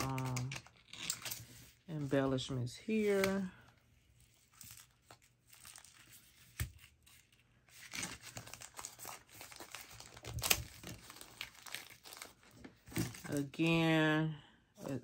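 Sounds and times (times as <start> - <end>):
packaging crinkling: 0.0 - 1.9, 3.0 - 13.5.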